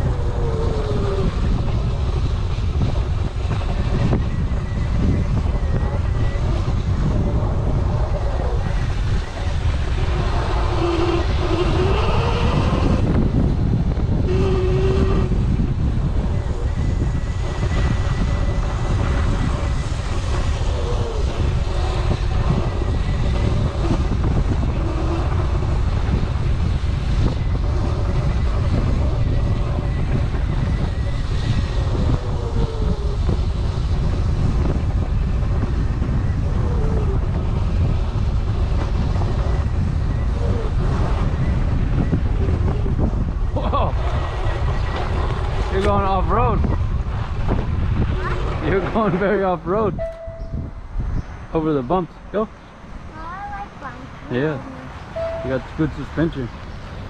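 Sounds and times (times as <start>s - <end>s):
electric motorbike motor whining: 0.0s - 51.3s
tyre and trail rumble: 0.0s - 57.0s
wind buffeting microphone: 0.0s - 57.0s.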